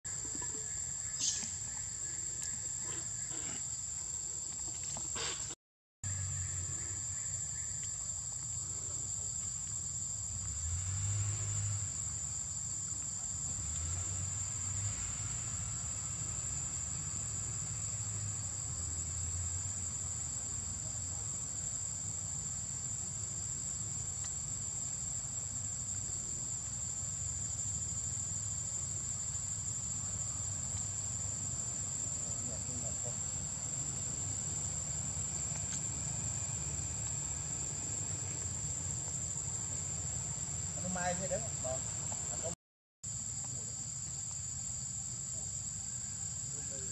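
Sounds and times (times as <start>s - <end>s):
insect chorus drone: 0.1s - 46.9s.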